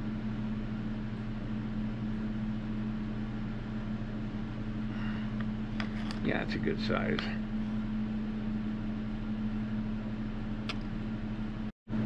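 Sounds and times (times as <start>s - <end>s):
low electrical hum with hiss: 0.0s - 12.0s.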